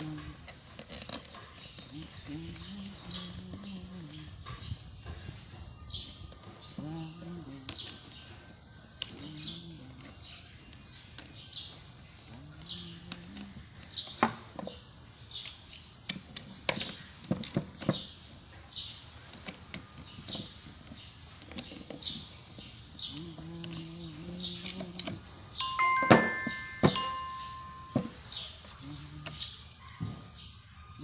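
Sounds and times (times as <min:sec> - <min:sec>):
bird chirping: 0:01.3 - 0:31.0.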